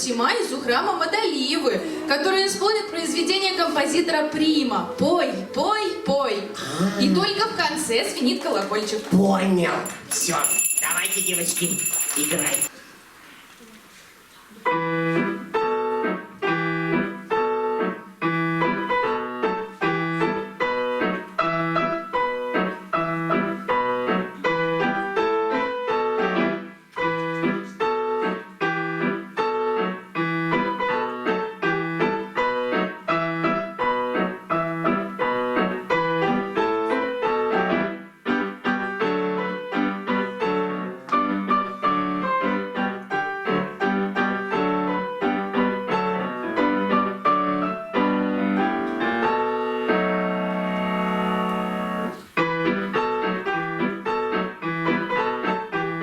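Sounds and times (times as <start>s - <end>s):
grand piano duet: 0.0s - 12.7s, 14.5s - 56.0s.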